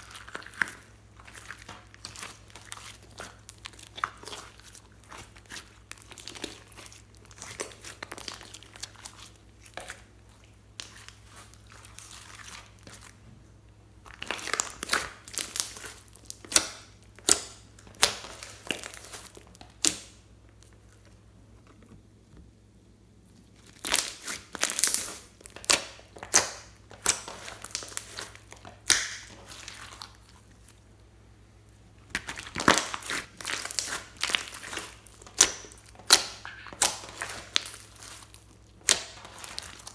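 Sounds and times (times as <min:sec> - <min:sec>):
hands squeezing crackling slime: 0:00.0 - 0:13.2, 0:14.0 - 0:21.0, 0:23.5 - 0:30.8, 0:32.1 - 0:39.9.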